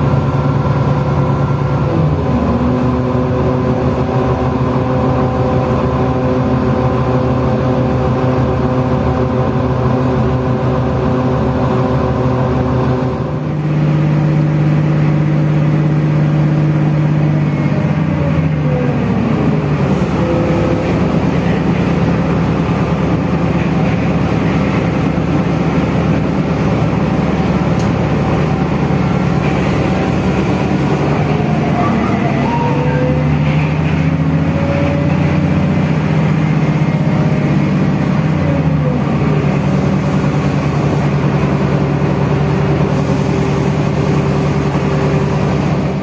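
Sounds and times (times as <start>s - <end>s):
diesel train engine running: 0.0s - 46.0s.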